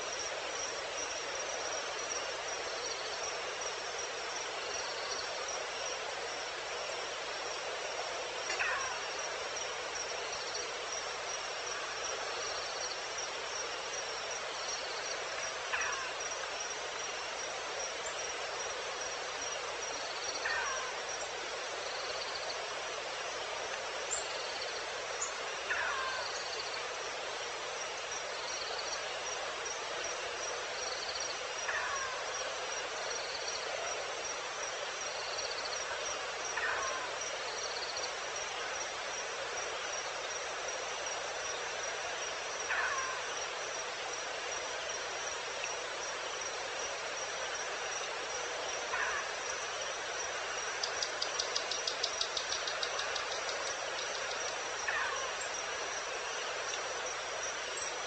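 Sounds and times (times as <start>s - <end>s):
constant hiss: 0.0s - 58.0s.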